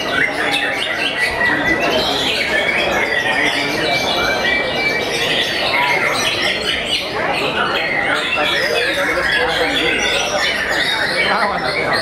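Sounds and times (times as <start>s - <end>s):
murmur of crowd voices: 0.0s - 12.0s
songbirds singing: 0.0s - 12.0s.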